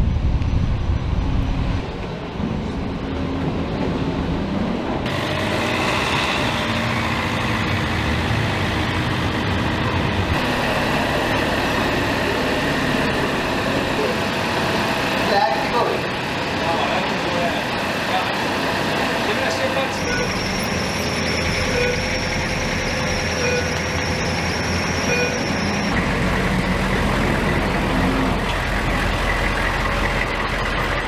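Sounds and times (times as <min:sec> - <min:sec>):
heavy truck engine droning: 0:00.0 - 0:31.0.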